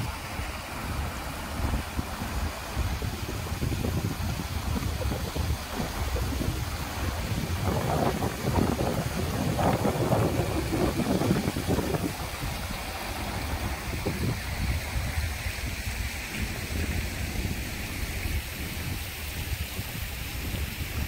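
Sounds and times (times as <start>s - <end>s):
fountain splashing into pool: 0.0s - 21.0s.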